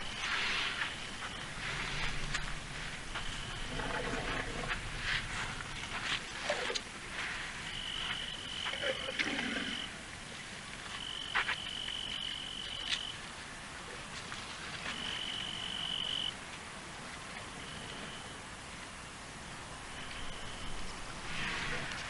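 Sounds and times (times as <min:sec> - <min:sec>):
night ambience: 0:00.0 - 0:22.0.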